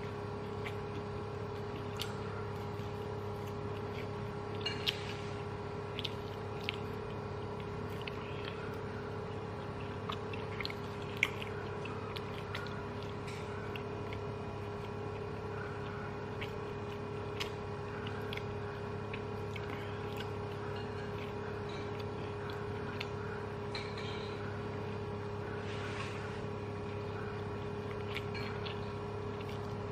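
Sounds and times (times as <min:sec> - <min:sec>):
person chewing: 0:00.0 - 0:25.6, 0:26.2 - 0:29.9
steady hum: 0:00.0 - 0:29.9.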